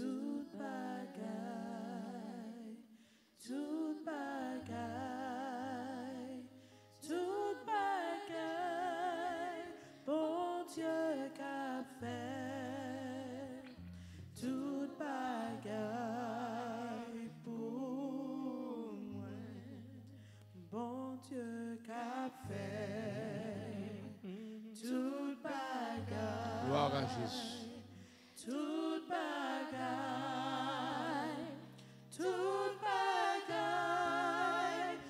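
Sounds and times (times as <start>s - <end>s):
person singing with vibrato: 0.0s - 35.0s.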